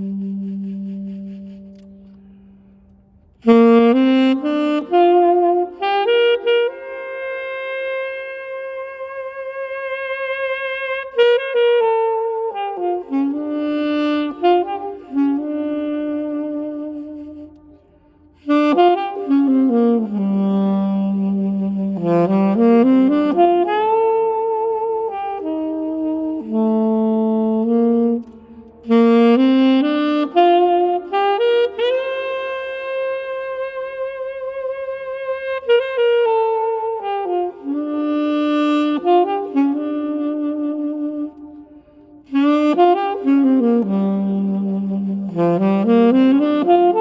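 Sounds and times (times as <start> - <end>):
alto saxophone playing: 0.0 - 47.0.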